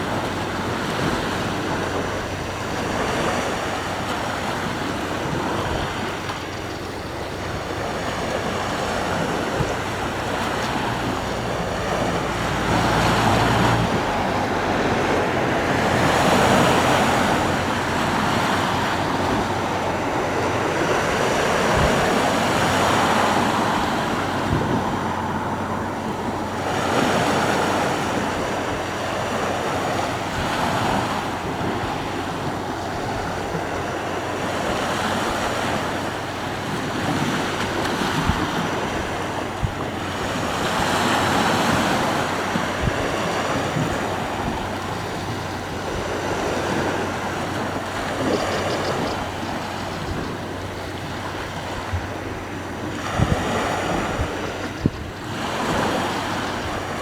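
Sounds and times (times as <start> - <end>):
waves breaking on shore: 0.0 - 57.0.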